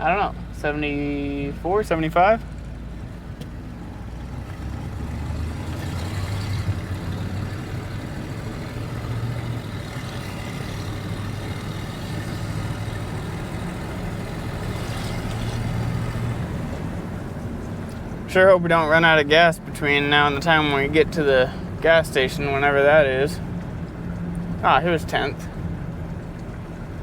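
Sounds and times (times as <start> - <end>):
pickup truck engine: 0.0 - 27.0
road noise: 0.0 - 27.0.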